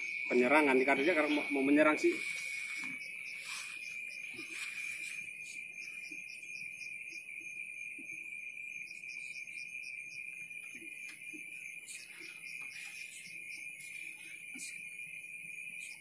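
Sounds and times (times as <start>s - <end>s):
insect high-pitched trill: 0.0s - 16.0s
insect quick chirps: 0.0s - 16.0s.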